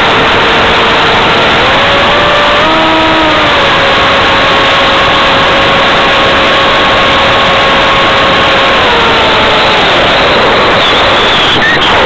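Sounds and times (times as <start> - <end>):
loud airflow rush: 0.0 - 12.0
propeller motor drone: 0.0 - 12.0.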